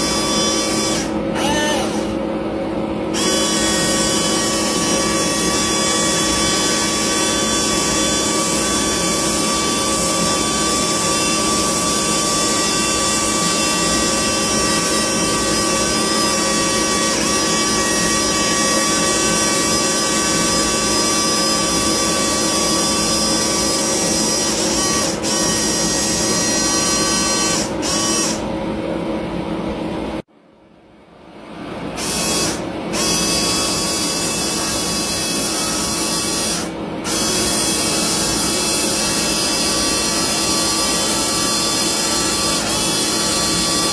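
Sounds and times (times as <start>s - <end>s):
electric hydraulic pump whine: 0.0s - 28.5s, 31.9s - 43.9s.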